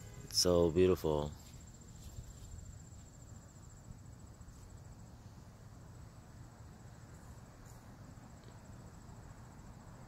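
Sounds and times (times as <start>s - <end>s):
high-pitched insect trill: 0.0s - 10.0s.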